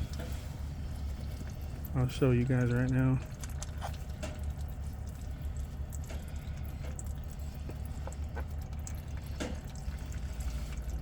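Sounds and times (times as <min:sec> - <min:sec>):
fluid dripping and trickling: 0:00.0 - 0:11.0
steady low hum: 0:00.0 - 0:11.0.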